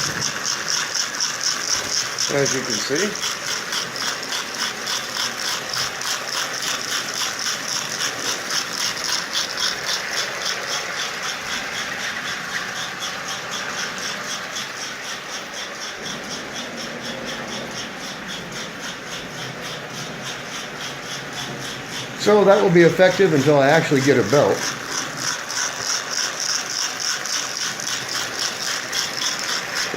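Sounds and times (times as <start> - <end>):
ball bearings rattling rhythmically: 0.0 - 29.9
mechanical running noise: 0.0 - 29.9.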